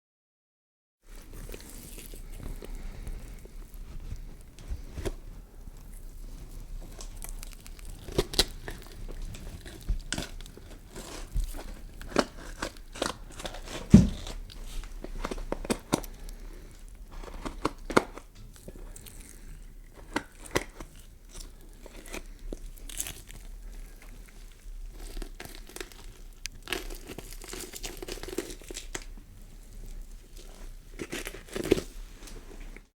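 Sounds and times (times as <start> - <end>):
skin tearing and crinkling: 1.3 - 32.5.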